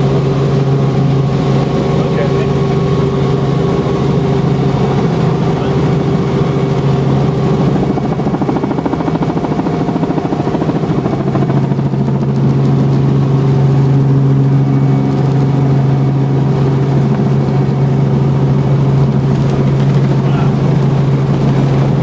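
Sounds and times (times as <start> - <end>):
helicopter engine drone: 0.0 - 22.0.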